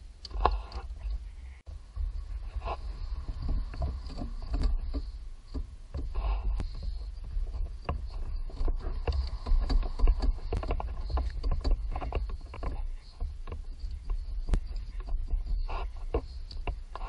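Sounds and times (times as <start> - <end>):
low rumble: 0.0 - 17.0
clicks knocks and scrapes of parts: 0.2 - 17.0.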